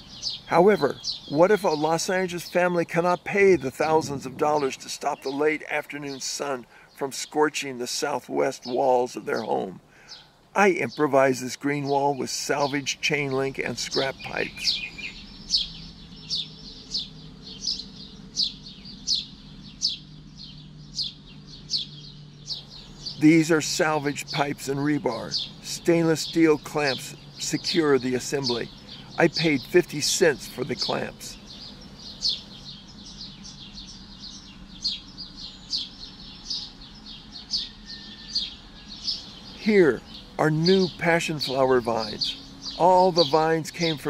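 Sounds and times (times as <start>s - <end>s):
songbird chirping: 0.0s - 44.0s.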